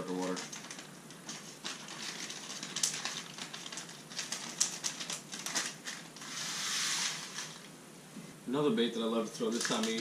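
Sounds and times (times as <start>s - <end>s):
plastic package crinkling: 0.0s - 7.7s, 9.4s - 10.0s.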